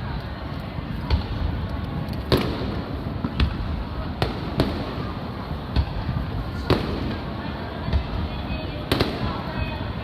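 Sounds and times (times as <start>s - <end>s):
background noise: 0.0s - 10.0s
fireworks bangs: 0.9s - 10.0s.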